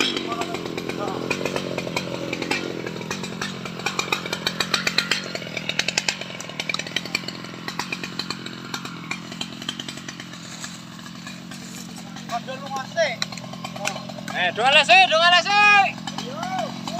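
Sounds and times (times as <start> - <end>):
chainsaw running: 0.0 - 16.9.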